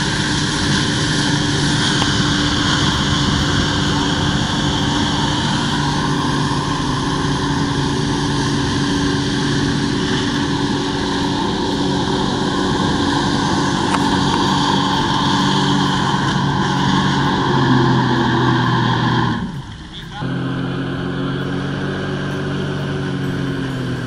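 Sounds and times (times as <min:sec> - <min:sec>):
hissing water jets: 0:00.0 - 0:24.0
jet ski engine running: 0:00.0 - 0:24.0.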